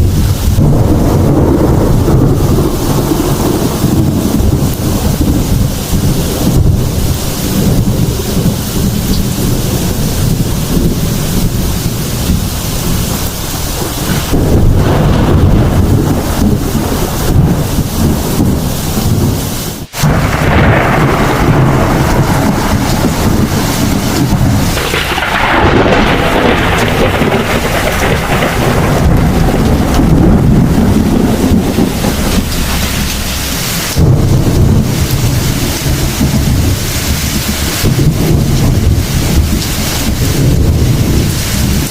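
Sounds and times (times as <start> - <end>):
heavy rain: 0.0 - 41.9
low thunder rolls: 0.0 - 41.9.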